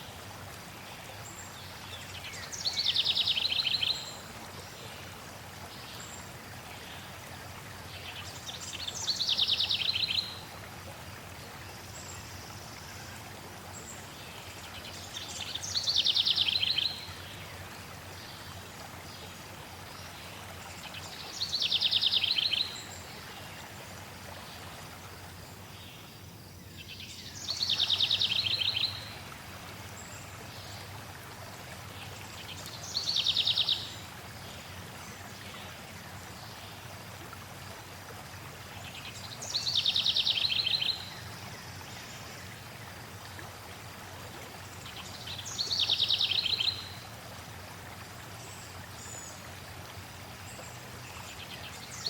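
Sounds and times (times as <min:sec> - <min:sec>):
flowing water: 0:00.0 - 0:52.0.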